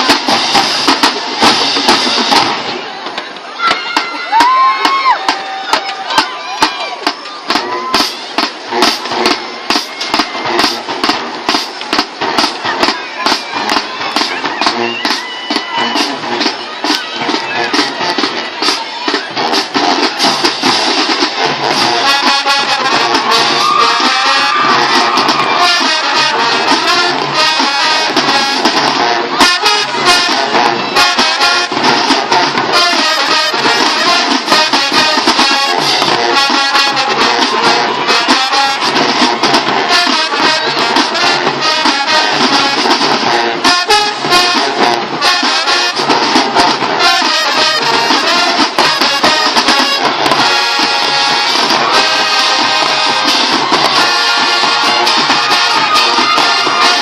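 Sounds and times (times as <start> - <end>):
brass section: 0.0 - 57.0
marching band playing: 0.0 - 57.0
steady drum beat: 0.0 - 57.0.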